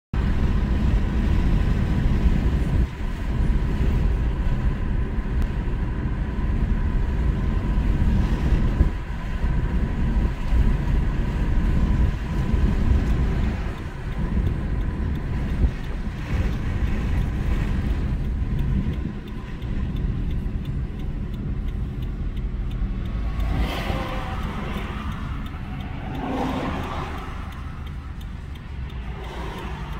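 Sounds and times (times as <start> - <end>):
car engine and tyre rumble: 0.1 - 29.9.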